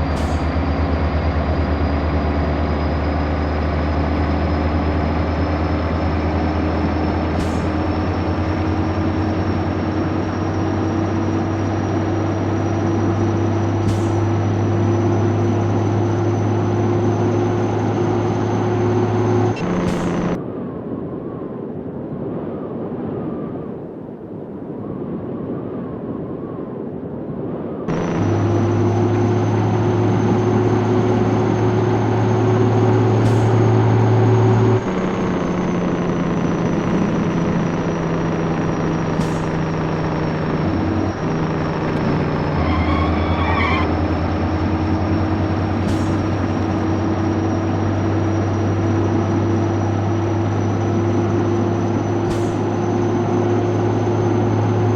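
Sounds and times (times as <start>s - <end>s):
truck diesel engine running: 0.0s - 20.4s, 27.9s - 54.9s.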